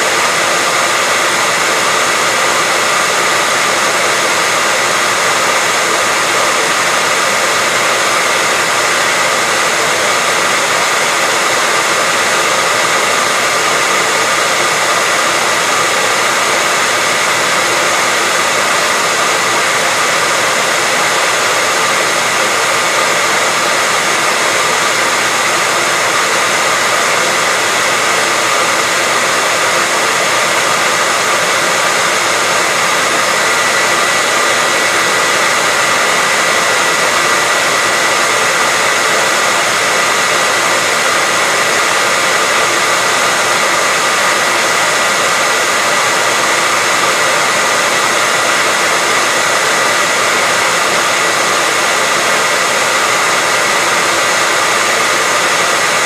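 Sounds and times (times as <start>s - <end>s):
hairdryer running: 0.0s - 56.0s.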